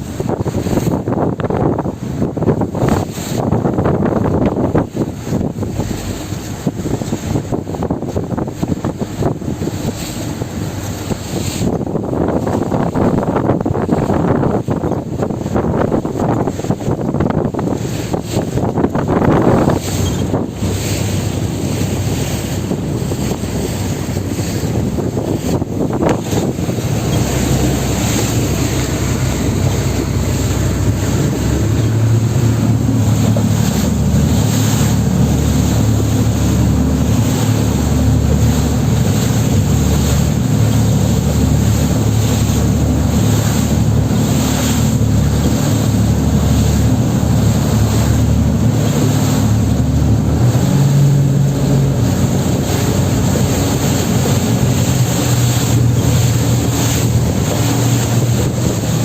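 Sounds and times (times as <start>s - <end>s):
boat engine droning: 0.0s - 59.0s
water rushing past: 0.0s - 59.0s
wind buffeting microphone: 0.0s - 59.0s.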